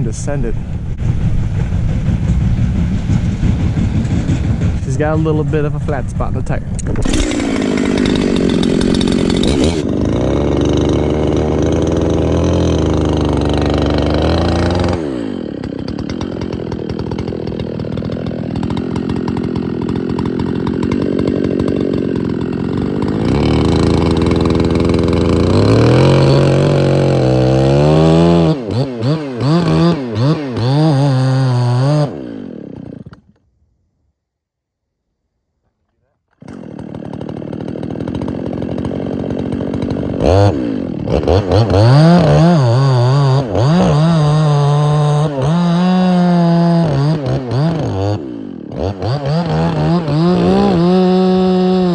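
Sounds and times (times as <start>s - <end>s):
chainsaw cutting into tree: 6.8s - 33.5s, 36.3s - 51.9s.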